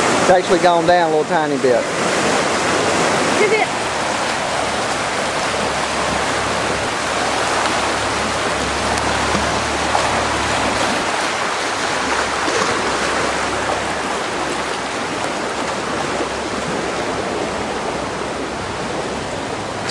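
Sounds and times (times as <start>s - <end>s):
floodwater rushing: 0.0s - 19.9s.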